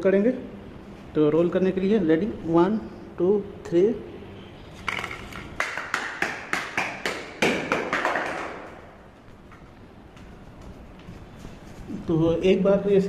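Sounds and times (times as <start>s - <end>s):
echo in stairwell: 1.4s - 13.0s.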